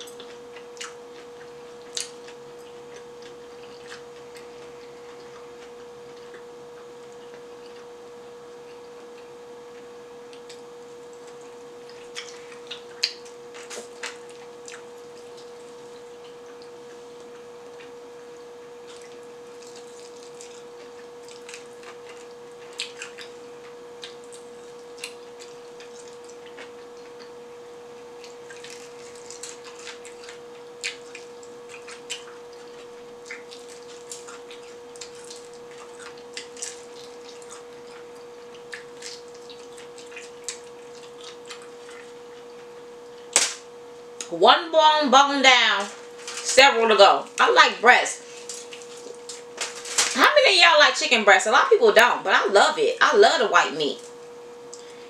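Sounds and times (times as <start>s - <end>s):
chewing fried chicken: 0.0s - 44.3s, 48.1s - 50.2s.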